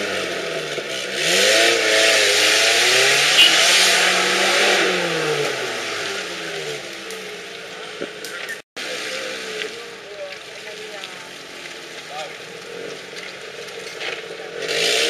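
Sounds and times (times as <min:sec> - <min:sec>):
off-road engine revving: 0:00.0 - 0:15.0.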